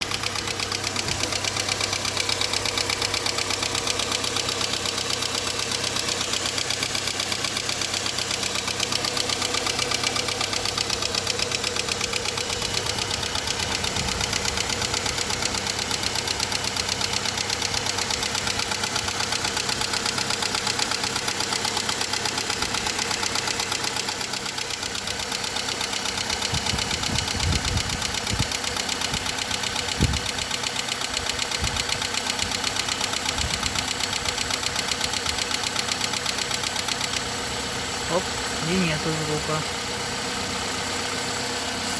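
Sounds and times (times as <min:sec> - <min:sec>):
car engine idling with ticking clatter: 0:00.0 - 0:41.9.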